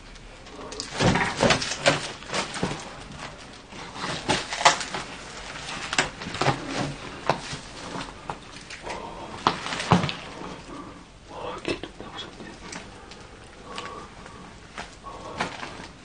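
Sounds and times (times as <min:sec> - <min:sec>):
rustling of clothes and paper: 0:00.0 - 0:16.0.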